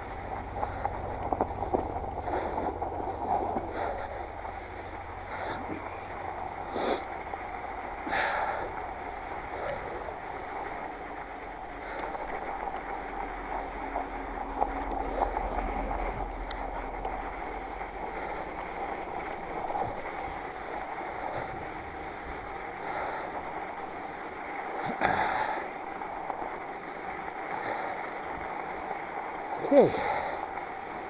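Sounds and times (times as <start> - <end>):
bike rattling: 0.0 - 31.0
bike tyres crunching over snow: 0.0 - 31.0.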